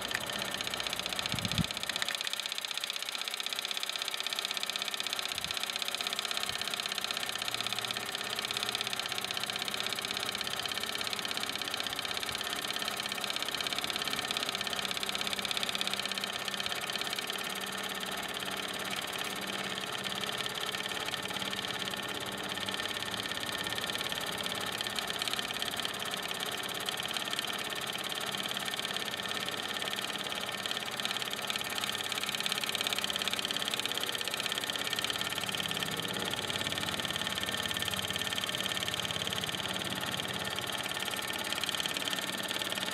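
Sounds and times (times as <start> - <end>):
toy steam engine running: 0.0 - 42.9.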